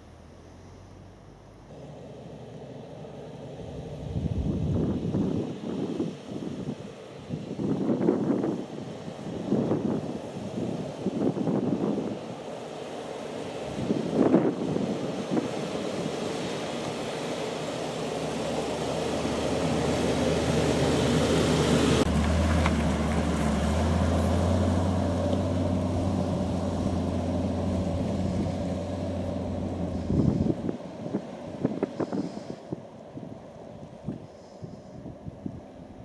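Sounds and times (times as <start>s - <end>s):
off-road vehicle on dirt track: 0.0s - 36.0s.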